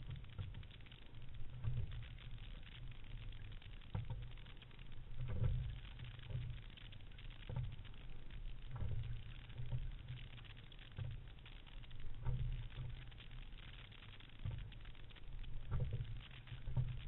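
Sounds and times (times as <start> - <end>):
water running along boat hull: 0.0 - 17.0.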